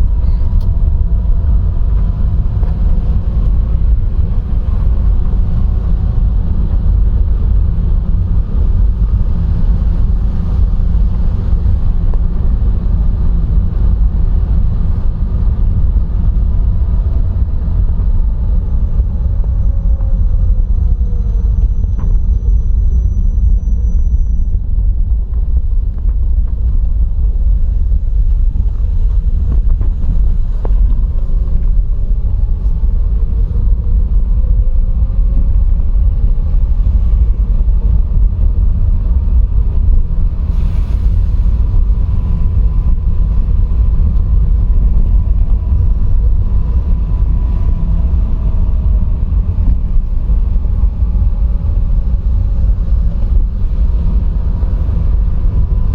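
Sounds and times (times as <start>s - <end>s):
vehicle road and engine rumble: 0.0s - 55.9s.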